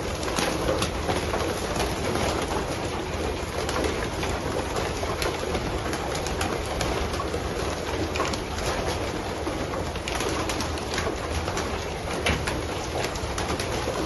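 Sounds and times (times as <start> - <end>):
pigeon flock wings flapping: 0.0 - 14.0.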